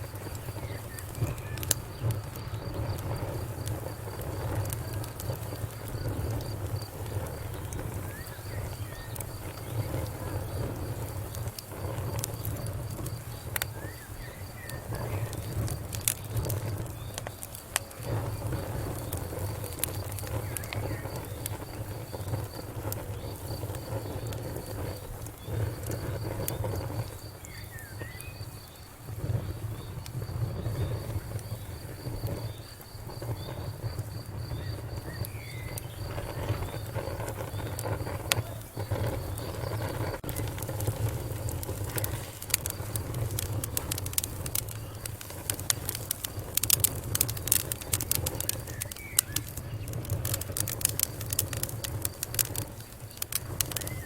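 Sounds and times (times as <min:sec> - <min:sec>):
flames rumbling: 0:00.0 - 0:54.0
wood fire crackling and popping: 0:00.0 - 0:54.0.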